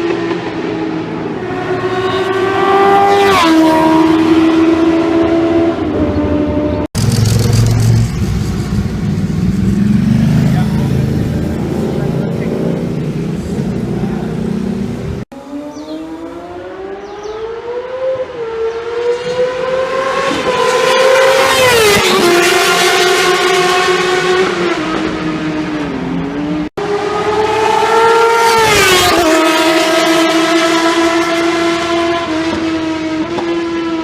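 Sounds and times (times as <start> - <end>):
motorbike engine revving high: 1.4 - 34.0.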